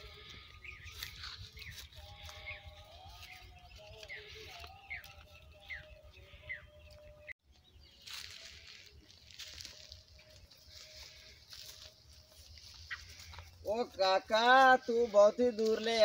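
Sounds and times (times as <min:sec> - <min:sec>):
rustle of leaves and brush: 0:00.0 - 0:06.4, 0:07.6 - 0:16.0.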